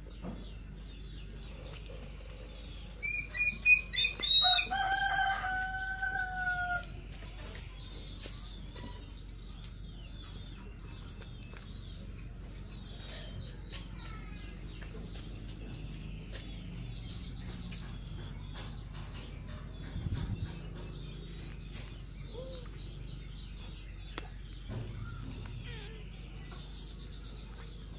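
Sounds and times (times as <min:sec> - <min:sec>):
small birds chirping and trilling: 0:00.0 - 0:27.9
steady low hum: 0:00.0 - 0:27.9.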